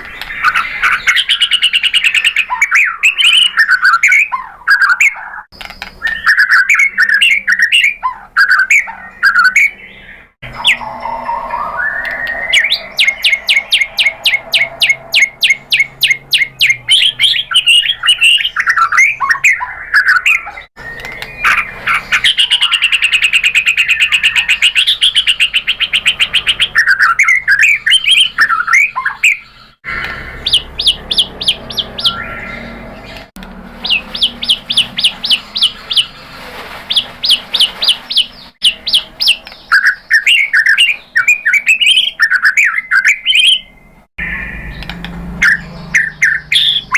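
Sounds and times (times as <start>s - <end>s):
bird singing trills and whistles: 0.0s - 46.9s.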